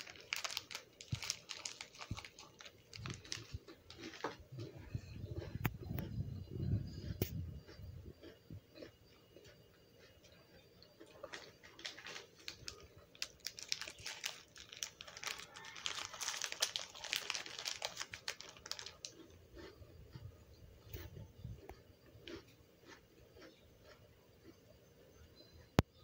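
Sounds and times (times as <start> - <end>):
cat chewing and crunching food: 0.0 - 26.0.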